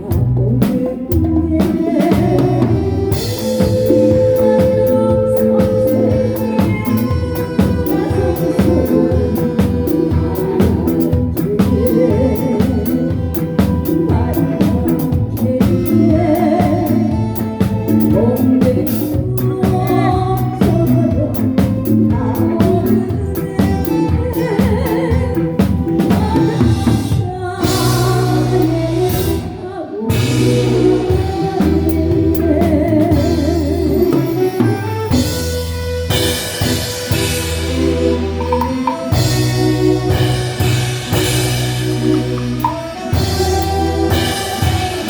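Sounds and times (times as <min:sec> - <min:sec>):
live band playing: 0:00.0 - 0:45.0.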